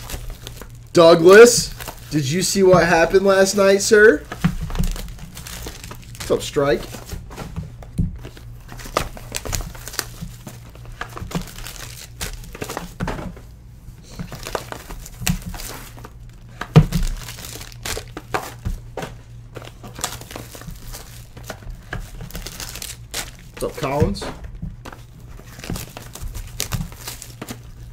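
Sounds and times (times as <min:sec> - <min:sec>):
foil wrappers crinkling: 0:00.0 - 0:13.1, 0:14.0 - 0:27.9.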